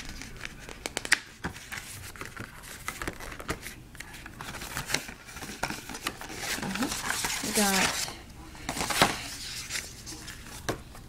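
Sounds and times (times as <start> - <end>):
cardboard packaging crinkling: 0.0 - 10.8.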